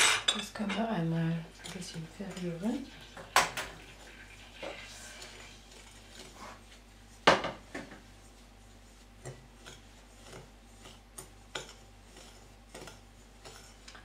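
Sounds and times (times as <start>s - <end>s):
utensil scraping bowl: 0.0s - 7.3s, 8.2s - 14.0s.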